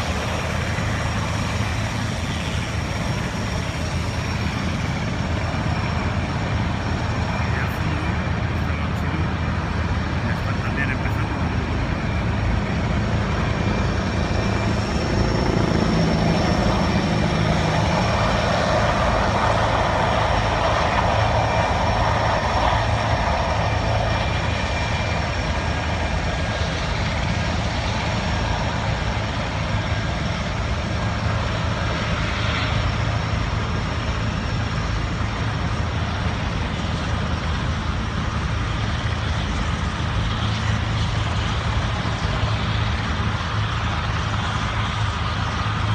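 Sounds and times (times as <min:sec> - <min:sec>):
helicopter turbine whine: 0:00.0 - 0:45.9.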